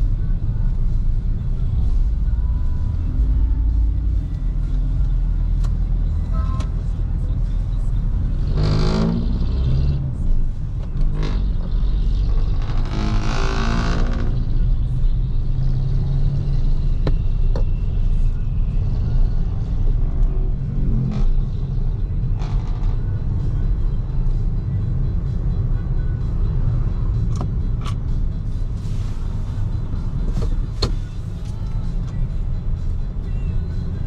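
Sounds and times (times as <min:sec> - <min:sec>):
car tyre and road noise: 0:00.0 - 0:34.0.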